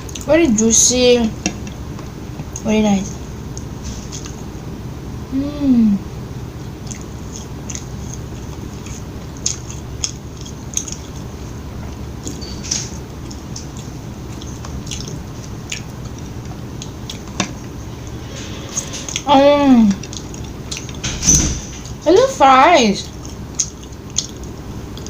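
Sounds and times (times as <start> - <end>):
chewing food: 0.0 - 2.7, 6.6 - 22.1, 23.0 - 25.0.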